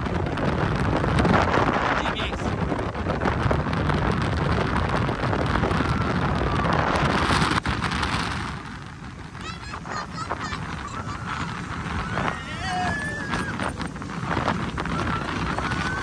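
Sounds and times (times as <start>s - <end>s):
rushing water: 0.0s - 16.0s
speedboat motor: 0.0s - 16.0s
wind buffeting microphone: 0.0s - 16.0s.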